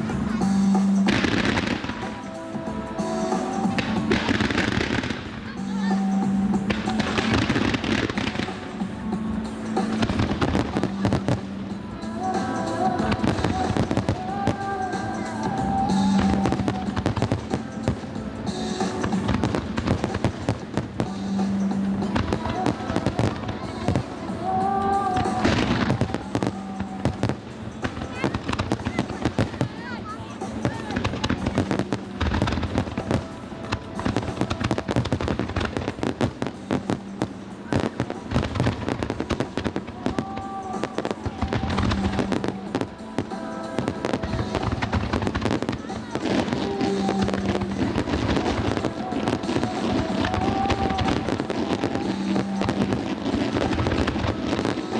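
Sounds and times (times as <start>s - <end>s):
fireworks bangs and crackles: 0.0s - 54.9s
music with long held notes: 0.0s - 54.9s.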